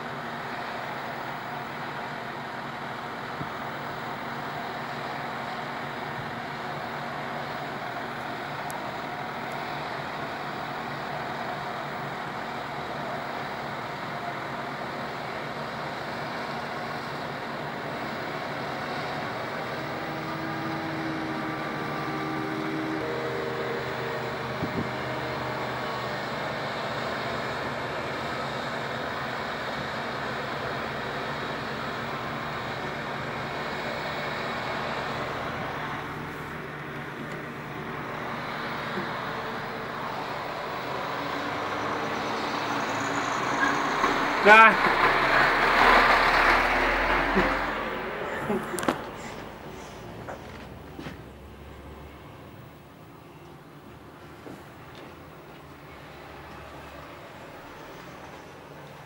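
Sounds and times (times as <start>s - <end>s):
harvester and tractor engines droning: 0.0s - 59.0s.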